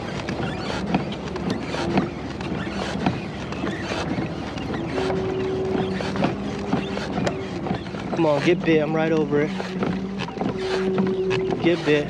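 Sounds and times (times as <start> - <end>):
water against kayak hull: 0.0 - 12.0
wind buffeting microphone: 0.0 - 12.0.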